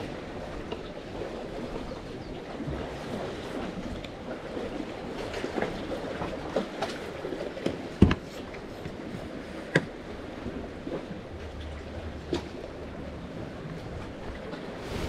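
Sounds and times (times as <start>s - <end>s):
seawater sloshing among concrete: 0.0s - 15.0s.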